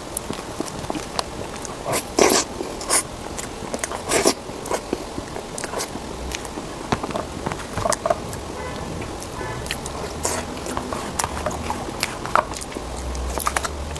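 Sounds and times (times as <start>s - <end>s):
biting and chewing food: 0.0s - 13.9s
mouth clicks: 0.0s - 13.9s
slurps: 0.1s - 6.6s, 7.6s - 13.9s.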